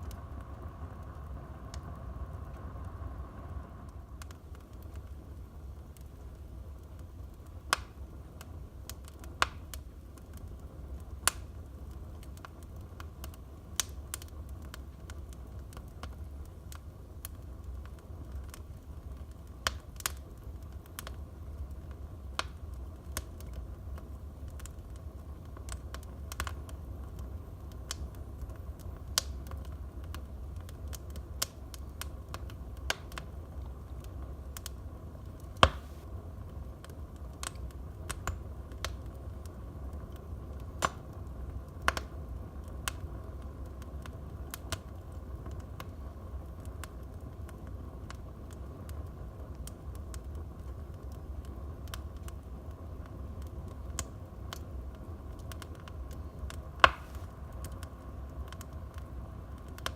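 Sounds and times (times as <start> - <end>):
fire crackling and popping: 0.0 - 59.9
fire low rumble: 0.0 - 59.9.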